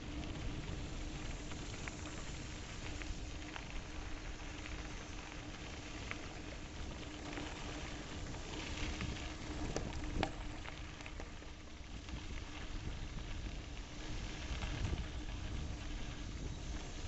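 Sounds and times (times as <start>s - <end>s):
faint steady hum: 0.0s - 17.0s
gravel crunching underfoot: 0.0s - 17.0s
wind rumble on microphone: 0.0s - 17.0s.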